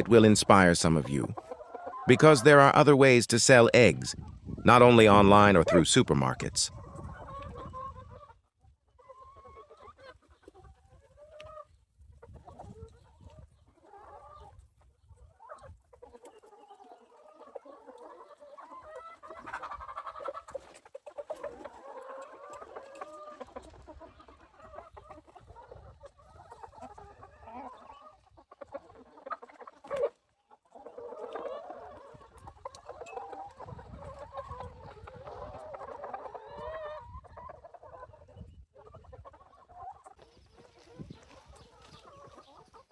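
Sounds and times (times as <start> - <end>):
hens clucking: 0.0 - 42.9.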